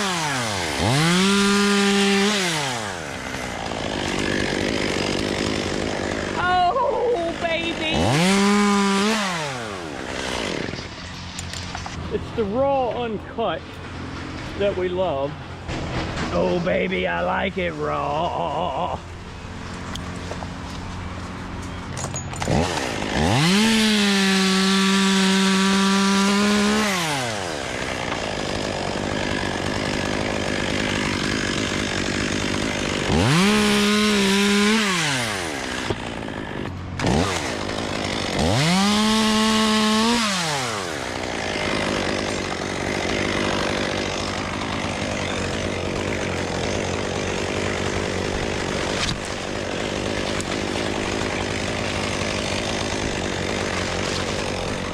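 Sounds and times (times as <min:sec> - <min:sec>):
chainsaw cutting wood: 0:00.0 - 0:17.5, 0:18.2 - 0:54.9.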